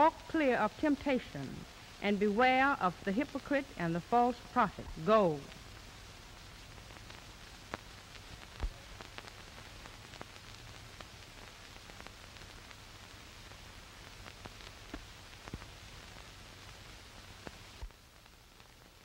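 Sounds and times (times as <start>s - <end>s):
crackles and pops: 0.0s - 19.0s
film soundtrack hiss: 0.0s - 19.0s.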